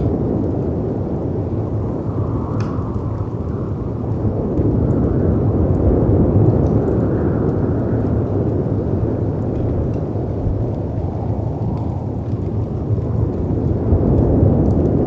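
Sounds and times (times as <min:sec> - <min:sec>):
wind and surf rumbling: 0:00.0 - 0:15.0
wood fire crackling: 0:00.0 - 0:15.0.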